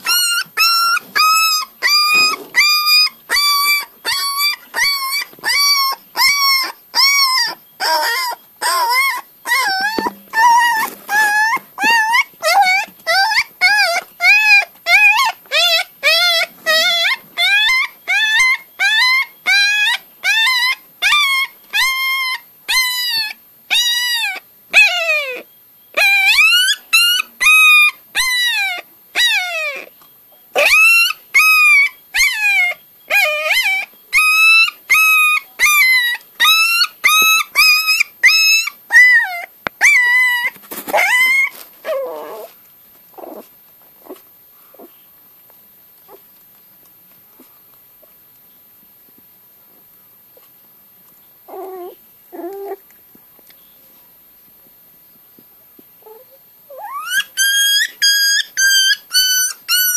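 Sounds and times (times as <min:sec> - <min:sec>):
puppy yelping and crying: 0:00.0 - 0:45.0, 0:51.5 - 0:52.8, 0:56.0 - 0:59.9.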